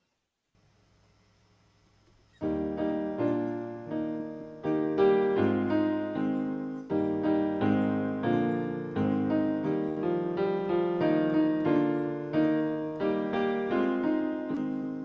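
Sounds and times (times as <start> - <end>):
piano playing slow hymn chords: 2.4 - 15.0.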